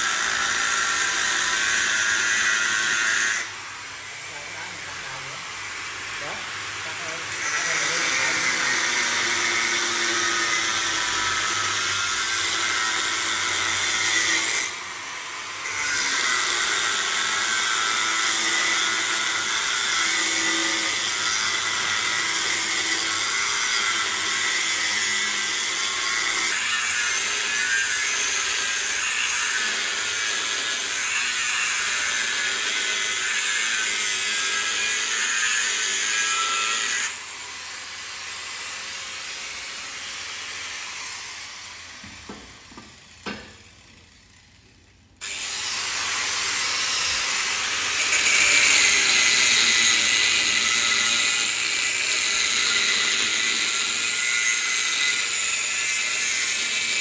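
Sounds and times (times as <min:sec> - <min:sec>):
angle grinder cutting steel: 0:00.0 - 0:57.0.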